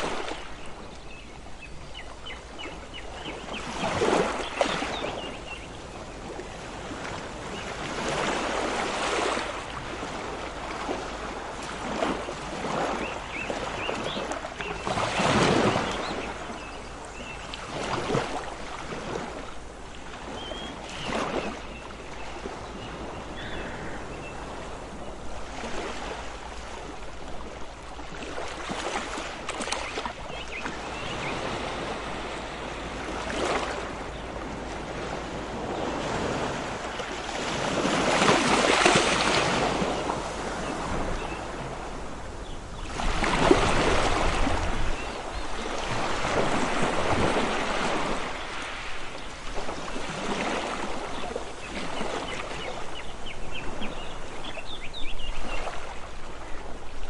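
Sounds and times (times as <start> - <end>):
ocean waves washing in: 0.0 - 0.7, 2.6 - 52.6.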